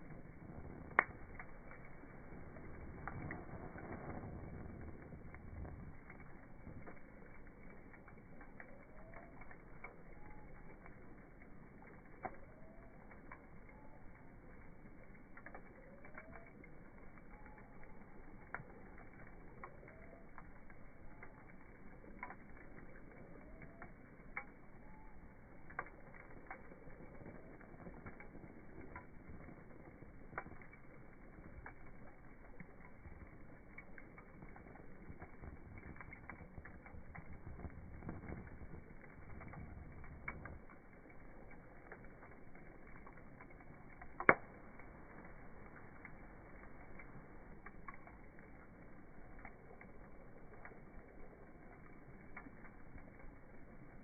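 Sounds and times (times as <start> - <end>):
wood bonfire crackling: 0.0 - 54.0.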